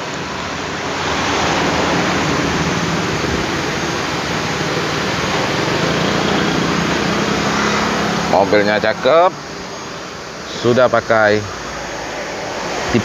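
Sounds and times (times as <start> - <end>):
air rushing in car cabin: 0.0 - 13.0
car engine idling: 0.0 - 13.0.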